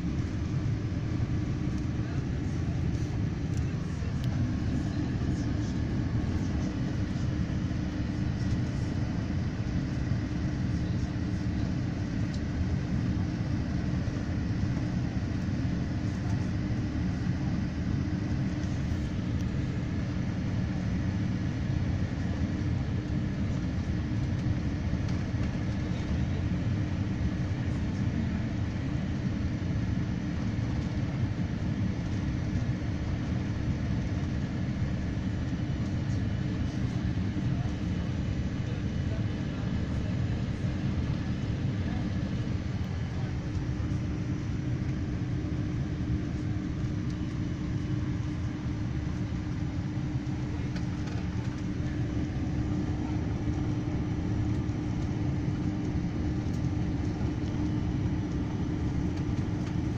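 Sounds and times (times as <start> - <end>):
deep rumble of jet engines: 0.0 - 59.9.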